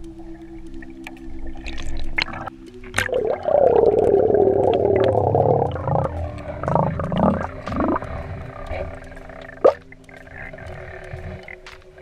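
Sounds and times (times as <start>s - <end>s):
low underwater hum: 0.0s - 12.0s
bubbling water rush: 1.4s - 11.6s.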